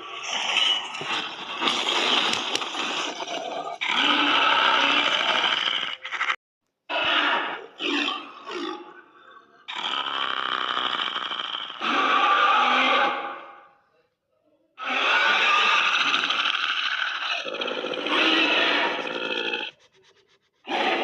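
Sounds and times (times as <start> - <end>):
creature growls and roars: 0.0 - 13.7, 14.8 - 19.8, 20.6 - 21.0.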